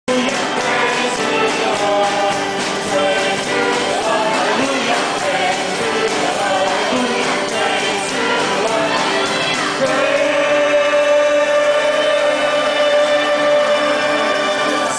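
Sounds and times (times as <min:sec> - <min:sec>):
acoustic guitar: 0:00.1 - 0:14.9
bass guitar: 0:00.1 - 0:14.9
group of people singing: 0:00.1 - 0:14.9
violins: 0:00.1 - 0:14.9.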